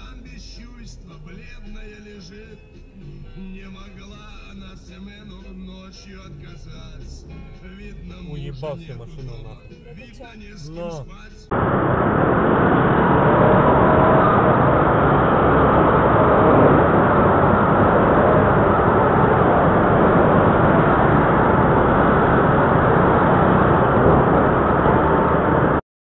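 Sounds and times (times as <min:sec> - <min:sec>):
car engine and road noise: 0:00.0 - 0:25.8.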